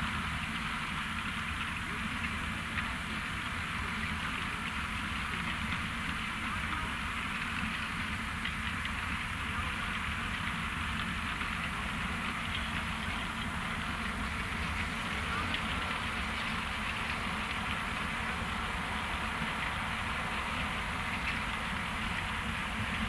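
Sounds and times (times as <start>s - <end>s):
low machine rumble: 0.0s - 23.0s.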